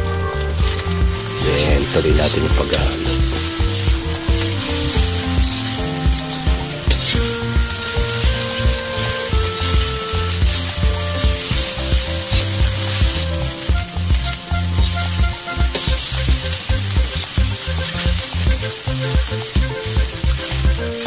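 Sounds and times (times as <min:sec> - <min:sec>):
rice sizzling in a wok: 0:03.3 - 0:20.9.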